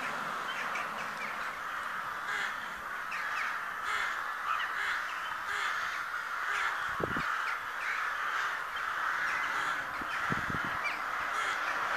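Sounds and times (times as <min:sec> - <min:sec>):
crows cawing: 0:00.0 - 0:11.9.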